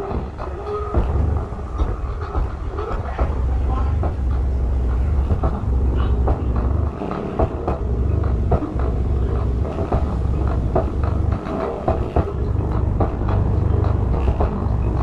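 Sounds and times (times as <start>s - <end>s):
deep bass from subwoofer: 0.1s - 15.0s.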